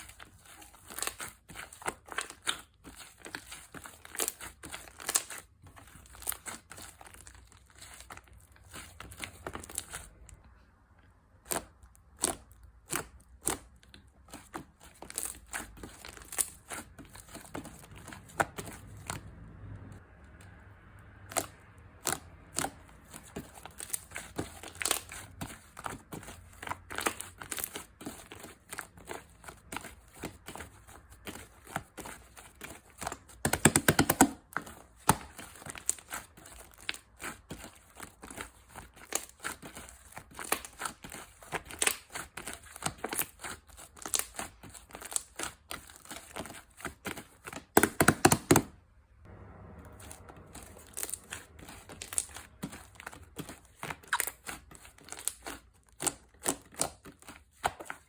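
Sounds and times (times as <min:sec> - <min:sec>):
slime being squished by hand: 0:00.0 - 0:10.4, 0:11.4 - 0:19.2, 0:21.2 - 0:48.7, 0:50.0 - 0:58.0.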